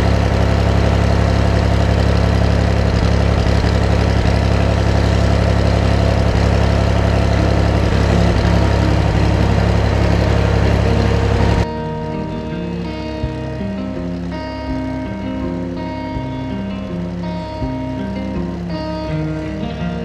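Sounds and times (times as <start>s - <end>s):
tractor engine droning steadily: 0.0s - 20.0s.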